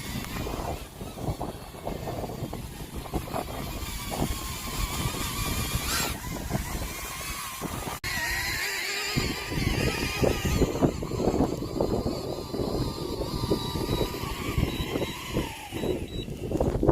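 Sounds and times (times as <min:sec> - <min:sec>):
drone propellers whining: 0:00.0 - 0:16.9
wind gusts on microphone: 0:00.0 - 0:16.9.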